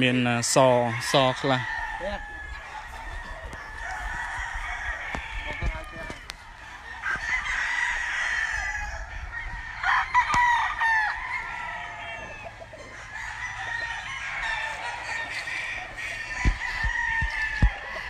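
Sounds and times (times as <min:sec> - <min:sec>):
roosters crowing: 0:00.0 - 0:18.0.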